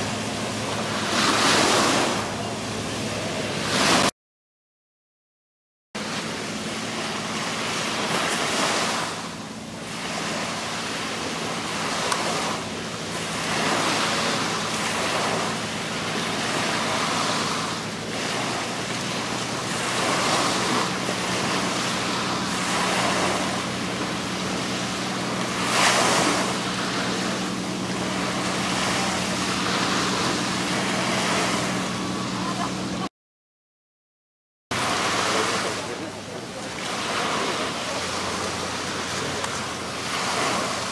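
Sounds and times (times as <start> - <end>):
low engine hum: 0.0 - 4.1, 6.0 - 33.1, 34.7 - 40.9
small waves washing: 0.0 - 4.1, 6.0 - 33.1, 34.7 - 40.9.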